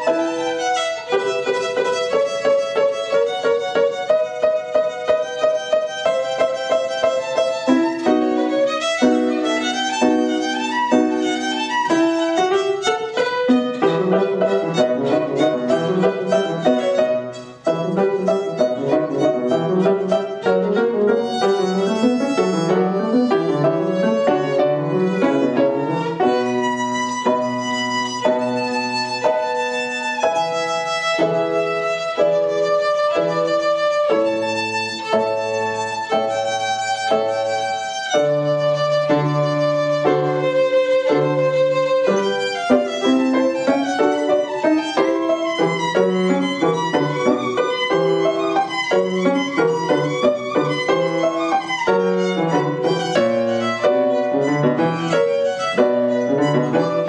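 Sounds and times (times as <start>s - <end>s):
piano accompaniment: 0.0s - 57.0s
violin melody: 0.0s - 57.0s.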